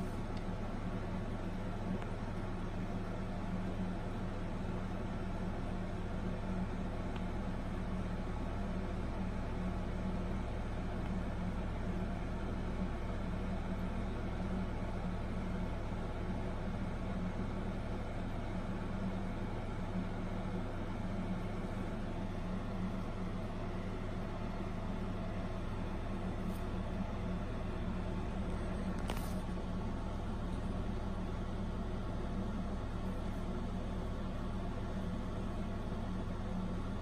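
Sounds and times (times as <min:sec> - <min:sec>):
ceiling fan humming: 0:00.0 - 0:37.0.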